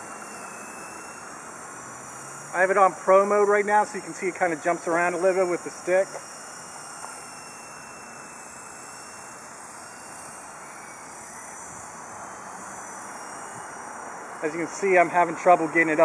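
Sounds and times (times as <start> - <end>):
toy helicopter rotor whir: 0.0 - 16.0.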